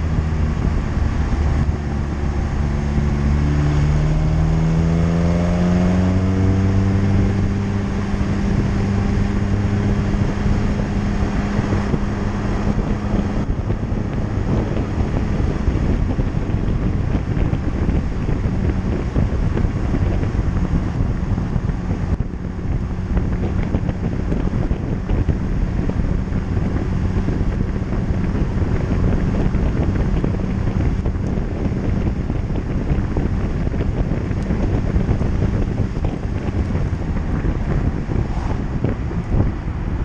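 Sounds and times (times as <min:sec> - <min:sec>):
car engine droning: 0:00.0 - 0:40.0
tyre and road roar: 0:00.0 - 0:40.0
wind buffeting: 0:00.0 - 0:40.0.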